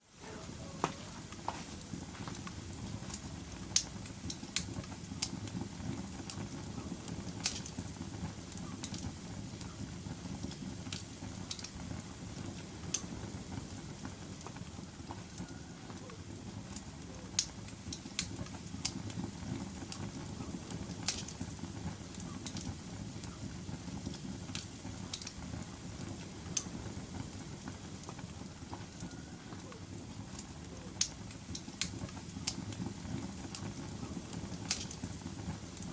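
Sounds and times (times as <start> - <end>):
fire burning in fireplace: 0.0 - 35.9
fire crackles and pops: 0.1 - 35.9.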